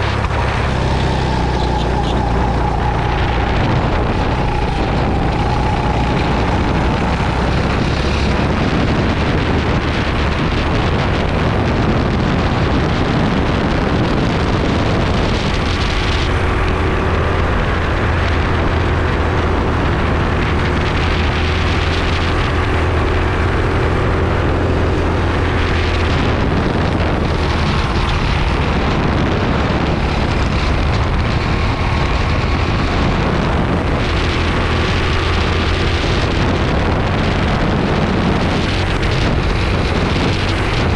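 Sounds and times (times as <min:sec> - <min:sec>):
kart engine running hard: 0:00.0 - 0:40.9
wind buffeting microphone: 0:00.0 - 0:40.9.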